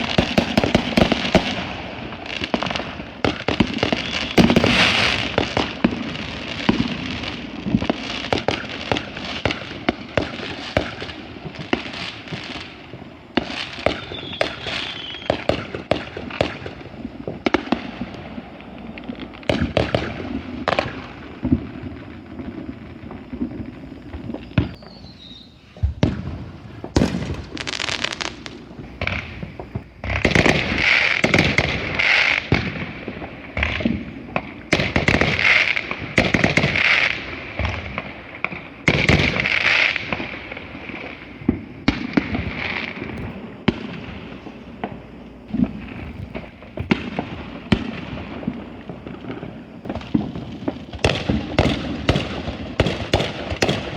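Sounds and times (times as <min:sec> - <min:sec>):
fireworks bangs and booms: 0:00.0 - 0:53.9
fireworks crackling: 0:00.0 - 0:53.9.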